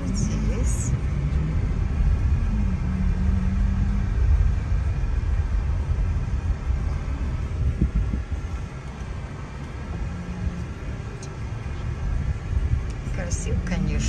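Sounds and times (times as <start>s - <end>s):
engine and road noise rumble: 0.0s - 14.0s
low hum: 0.0s - 14.0s.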